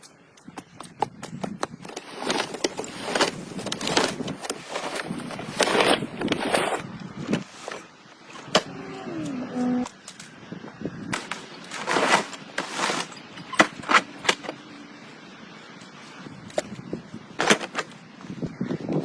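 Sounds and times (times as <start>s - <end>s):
scraping or rustling noise: 1.8s - 18.5s.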